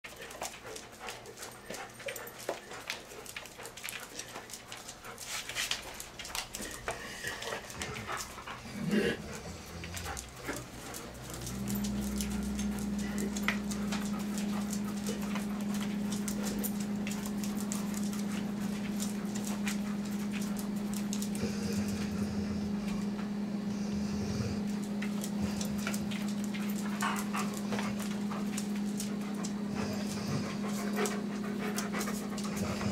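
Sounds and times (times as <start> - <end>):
dogs panting: 0.0 - 32.9
dog claws clicking on tile: 0.1 - 8.6, 9.4 - 22.1, 24.7 - 32.9
steady low hum: 0.1 - 32.9.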